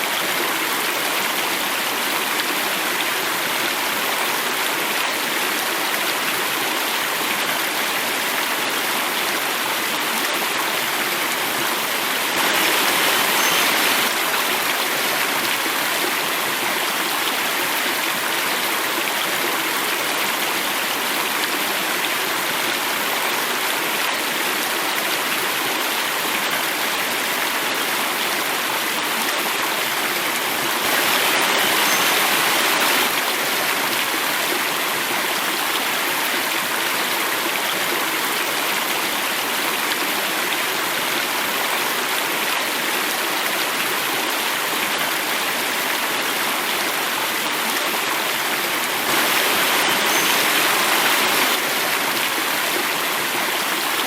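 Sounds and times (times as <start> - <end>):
water rushing over cascade: 0.0 - 54.0.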